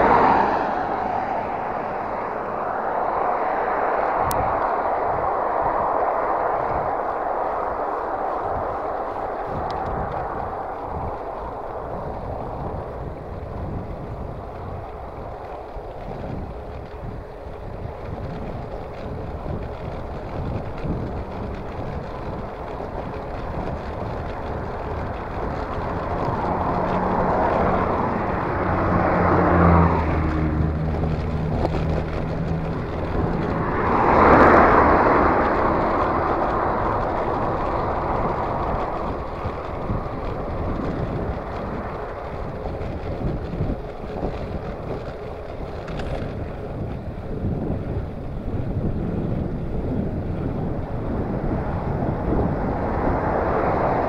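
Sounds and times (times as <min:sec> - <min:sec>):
cars driving past: 0:00.0 - 0:54.0
low engine hum: 0:00.0 - 0:54.0
wind rushing over microphone: 0:00.0 - 0:54.0.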